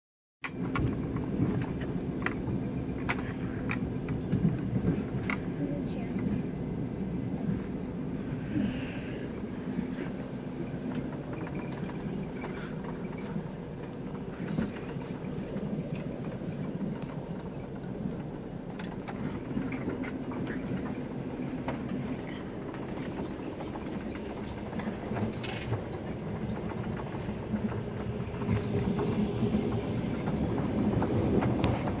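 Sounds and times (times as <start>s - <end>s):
train carriage rumble: 0.4s - 32.0s.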